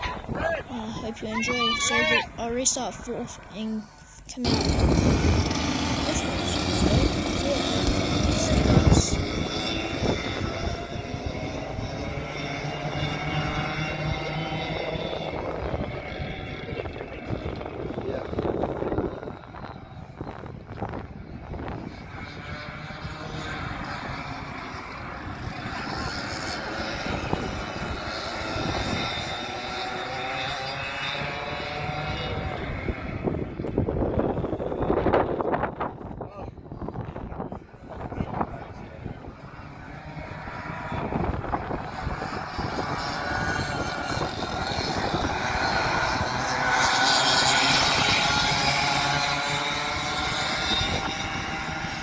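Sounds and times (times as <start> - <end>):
distant racing kart engines: 0.0 - 52.0.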